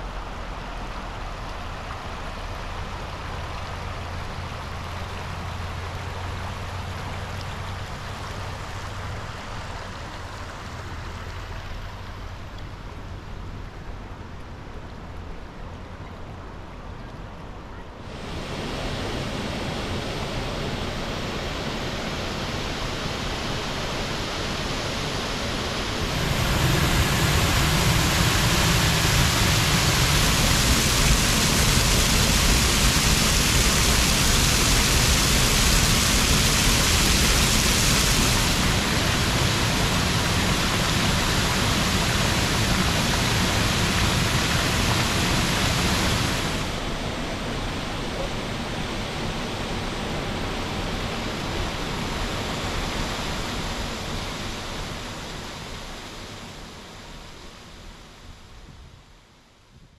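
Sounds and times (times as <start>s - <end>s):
waterfall rushing over rock: 0.0s - 12.3s, 18.1s - 57.1s.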